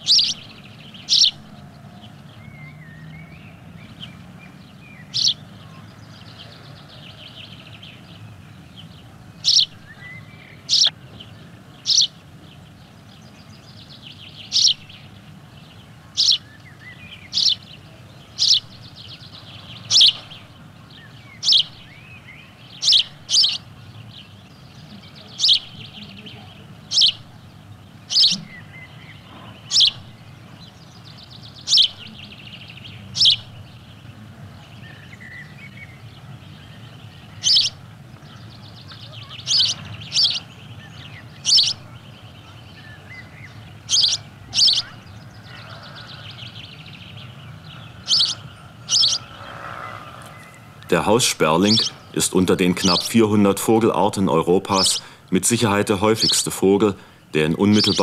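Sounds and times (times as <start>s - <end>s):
faint bird twittering: 0.0s - 58.0s
sparrow chirping: 0.0s - 58.0s.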